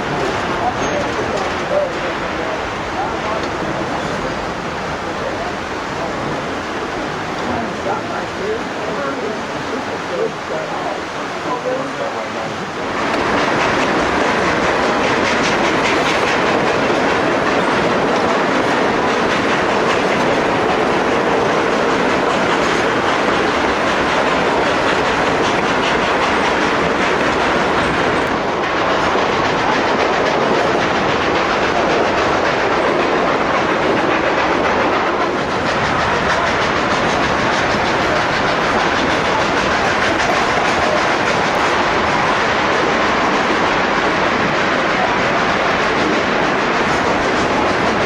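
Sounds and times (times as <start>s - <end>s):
train rolling on track: 0.0s - 48.0s
wheels clattering on rails: 0.0s - 48.0s.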